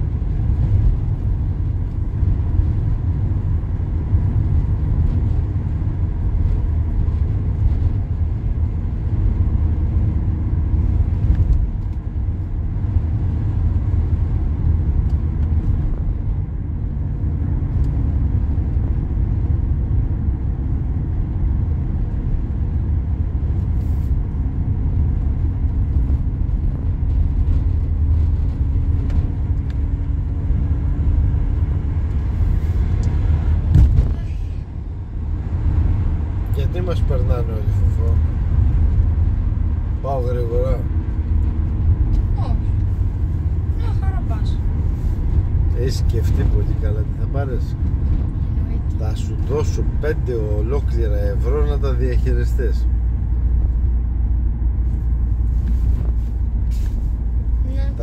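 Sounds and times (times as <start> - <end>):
tyre road noise rumble: 0.0 - 58.0.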